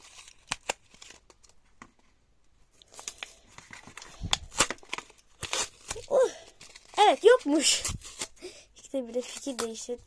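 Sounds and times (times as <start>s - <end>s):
packaging crinkling and tearing: 0.0s - 1.7s, 2.7s - 10.0s.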